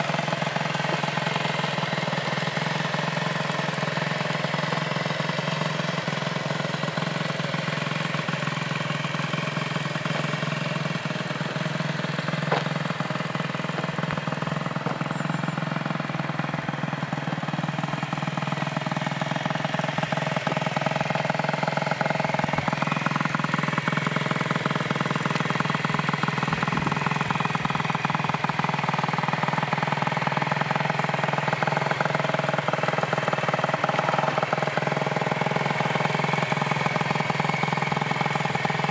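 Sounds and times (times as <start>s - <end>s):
moped engine idling: 0.0s - 38.9s.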